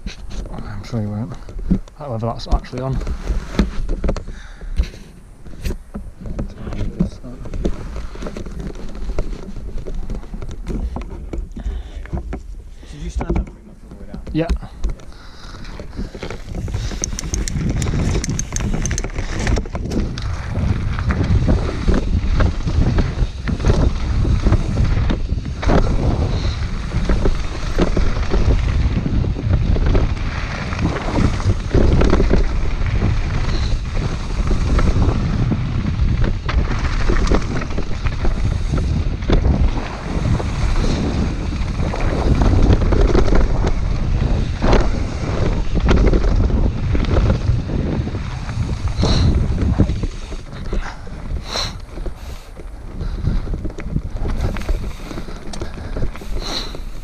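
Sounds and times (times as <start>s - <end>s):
bike knocking and rattling: 0.0s - 57.0s
tyres rumbling over dirt: 0.0s - 57.0s
wind buffeting microphone: 0.0s - 57.0s.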